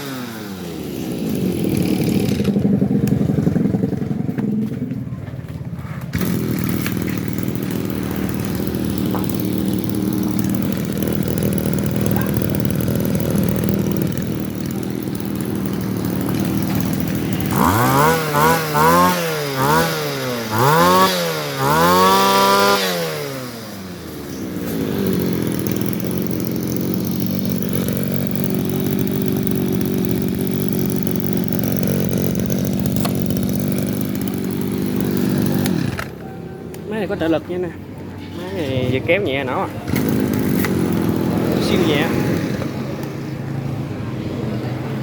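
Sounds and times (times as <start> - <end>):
brush cutter engine revving: 0.0 - 37.6, 38.3 - 45.0.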